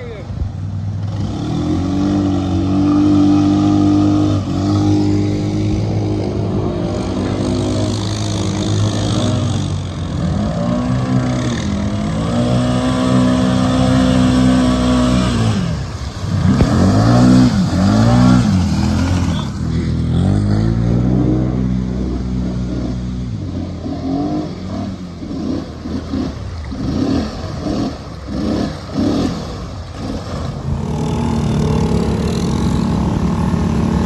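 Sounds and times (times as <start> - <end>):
atv engines revving: 0.0 - 34.0
water splashing and churning: 0.0 - 34.0.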